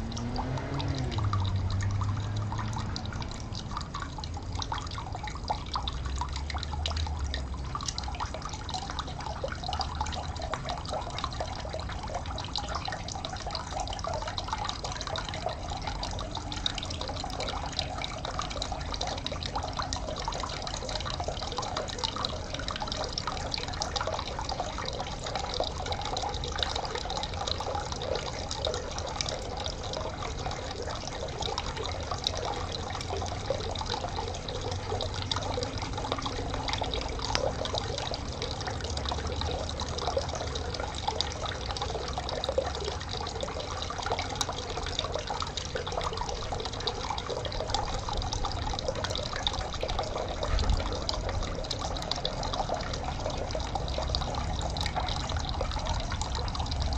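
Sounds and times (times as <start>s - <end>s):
stream water trickling and splashing: 0.0s - 56.9s.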